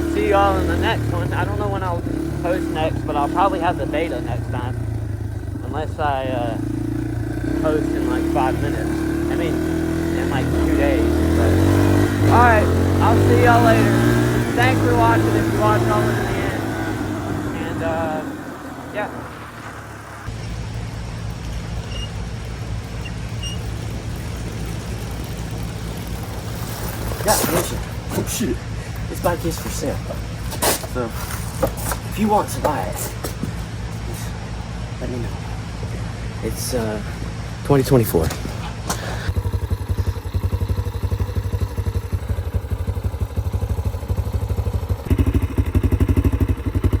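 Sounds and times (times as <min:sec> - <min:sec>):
dirt bike engine running: 0:00.0 - 0:47.0.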